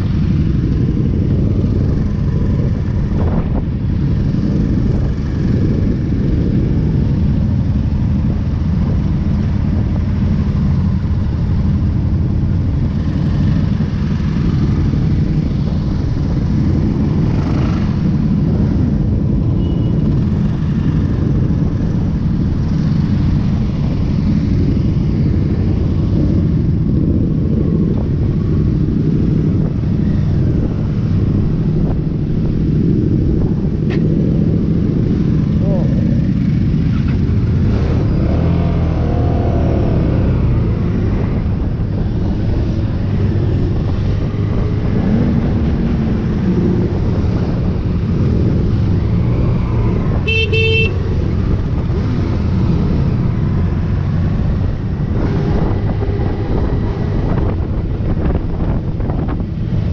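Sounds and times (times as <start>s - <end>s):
motorcycle engines rumbling: 0.0s - 59.9s.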